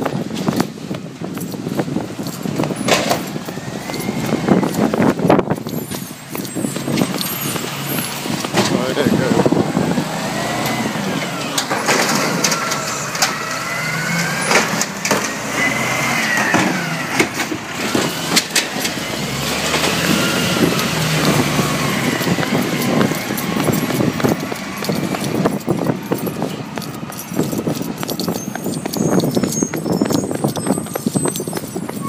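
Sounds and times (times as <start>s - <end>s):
cart knocking and banging: 0.0s - 32.0s
diesel engine running: 0.0s - 32.0s.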